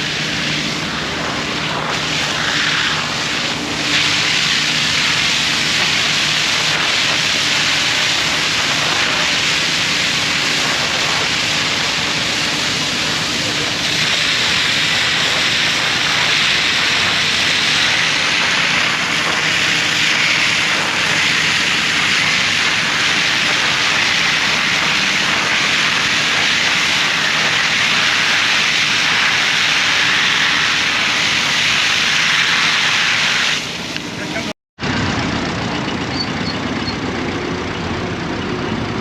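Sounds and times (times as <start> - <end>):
loud rush of water: 0.0 - 34.5
constant low hum: 0.0 - 39.0.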